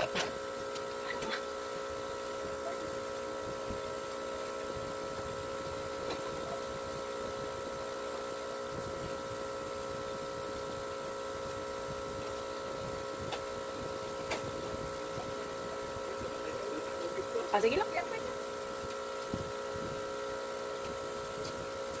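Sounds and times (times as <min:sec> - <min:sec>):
small motor humming: 0:00.0 - 0:22.0.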